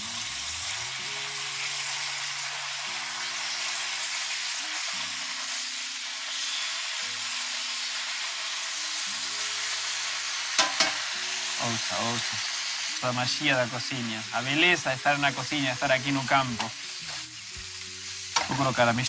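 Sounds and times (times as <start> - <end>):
vegetables sizzling in a wok: 0.0 - 19.0.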